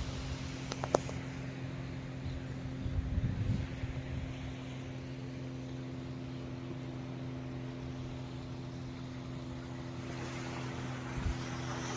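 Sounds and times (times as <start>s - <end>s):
engine humming steadily: 0.0s - 11.9s.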